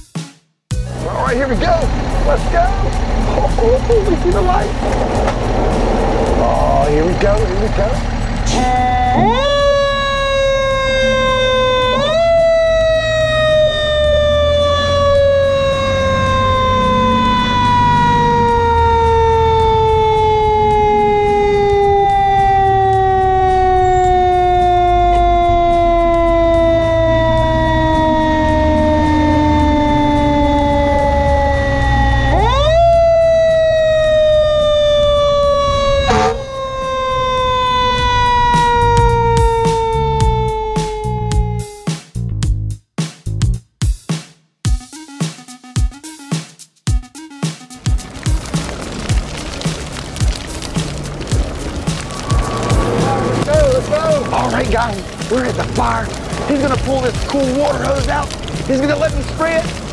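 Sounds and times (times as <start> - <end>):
low engine rumble: 0.8 - 41.7, 47.9 - 59.9
fire engine siren: 1.2 - 41.9, 47.8 - 59.9.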